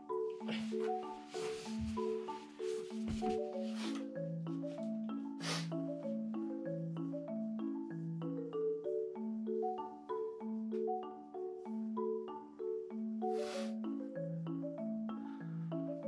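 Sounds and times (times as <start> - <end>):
marimba melody: 0.0 - 16.0.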